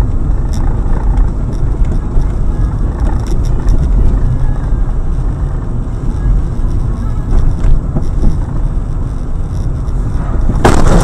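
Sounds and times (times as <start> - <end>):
engine and road rumble: 0.0 - 11.0
faint rattles: 0.0 - 11.0.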